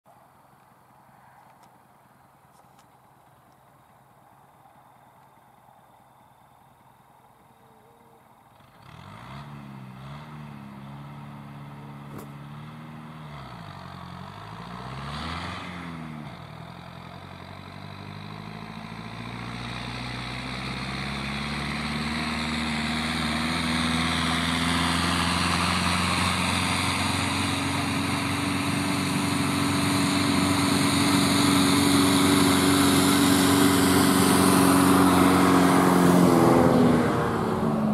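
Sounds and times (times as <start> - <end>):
tractor diesel engine under load: 2.9 - 37.9.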